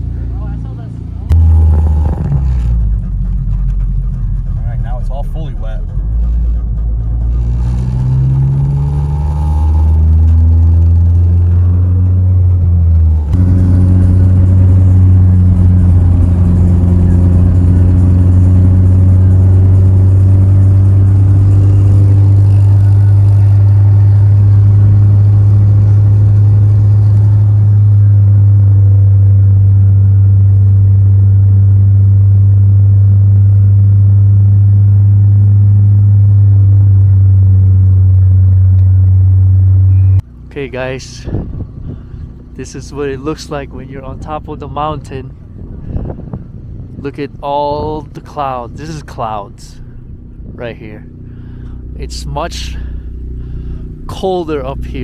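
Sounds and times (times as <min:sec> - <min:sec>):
car engine drone: 0:00.0 - 0:55.0
road noise: 0:00.0 - 0:55.0.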